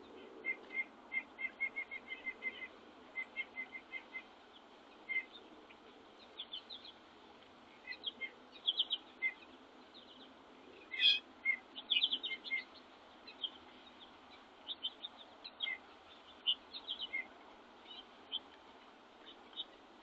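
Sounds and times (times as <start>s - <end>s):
songbirds chirping: 0.0s - 20.0s
steady background hiss: 0.0s - 20.0s.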